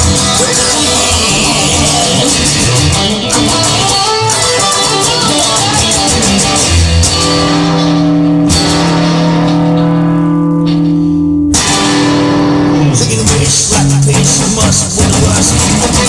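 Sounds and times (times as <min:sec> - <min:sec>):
guitar-led rock music: 0:00.0 - 0:16.0.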